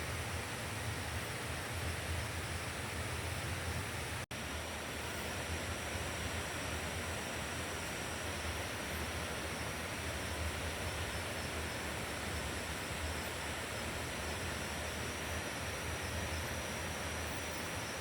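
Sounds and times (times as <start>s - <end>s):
river flowing: 0.0s - 18.0s.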